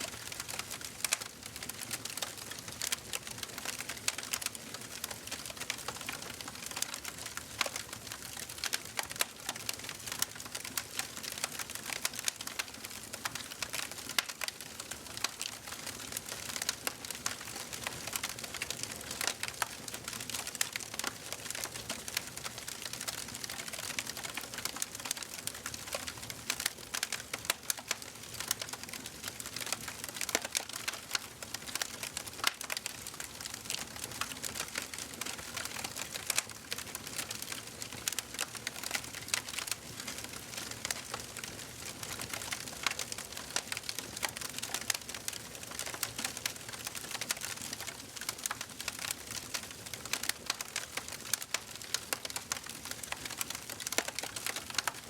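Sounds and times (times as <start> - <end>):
wood fire crackling and popping: 0.1 - 55.0.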